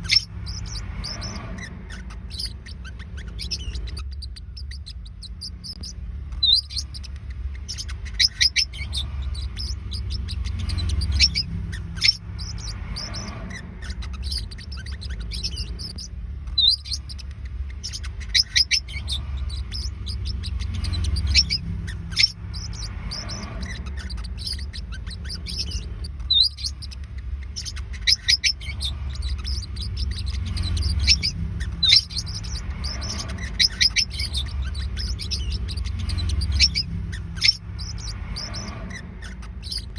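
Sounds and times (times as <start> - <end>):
parrotlets chirping: 0.0 - 39.9
steady low rumble: 0.0 - 39.9.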